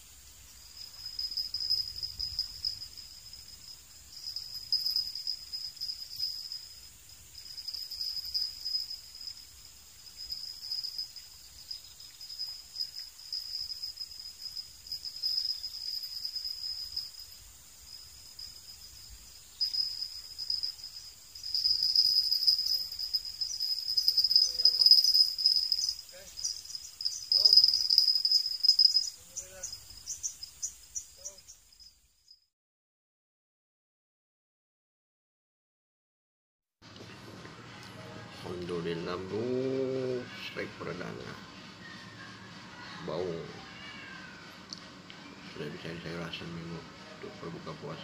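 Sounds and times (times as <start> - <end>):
insect chorus trilling: 0.0 - 32.5, 38.0 - 48.0.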